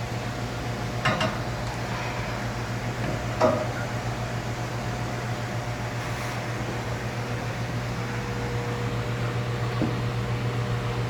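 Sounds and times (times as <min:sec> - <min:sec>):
machinery humming and hissing: 0:00.0 - 0:11.0.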